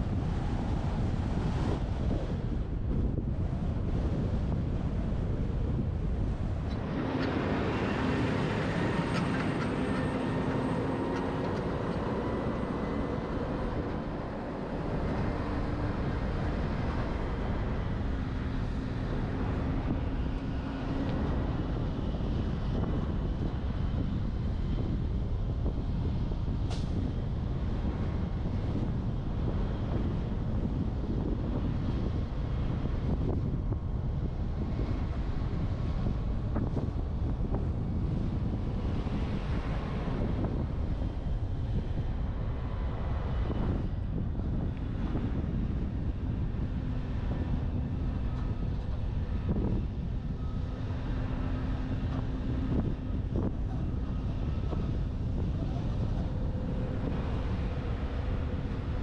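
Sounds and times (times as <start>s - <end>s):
droning hum: 0.0s - 59.0s
road and tyre noise: 0.0s - 59.0s
wind rushing over microphone: 0.0s - 59.0s.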